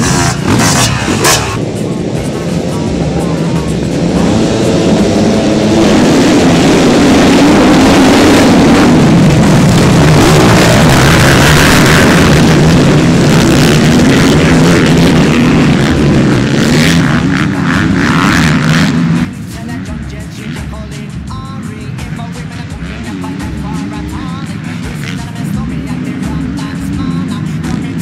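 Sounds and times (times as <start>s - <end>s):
motocross engines revving: 0.0s - 28.0s.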